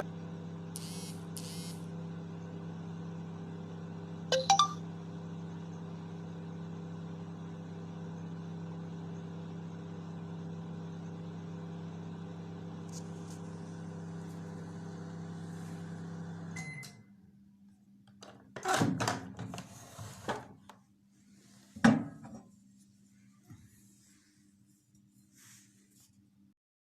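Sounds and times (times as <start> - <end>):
microwave oven humming: 0.0 - 25.7.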